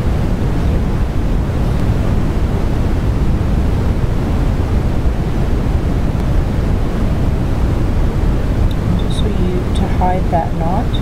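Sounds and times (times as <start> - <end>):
low rushing noise: 0.0 - 11.0.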